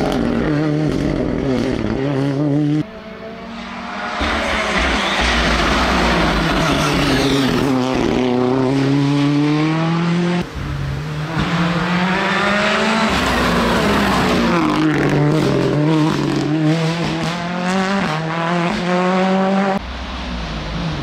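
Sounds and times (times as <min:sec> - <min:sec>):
rally car engine revving hard: 0:00.0 - 0:03.6, 0:04.2 - 0:19.8.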